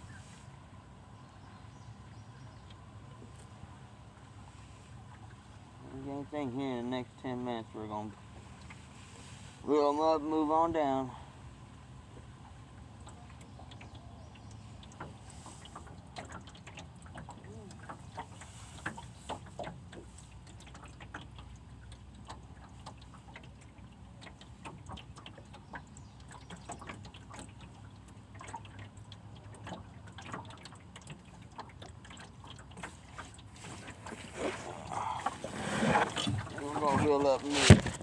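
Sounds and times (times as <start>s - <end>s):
water lapping and trickling: 0.0s - 38.0s
small ticks and splashes: 0.1s - 6.6s, 11.3s - 36.8s.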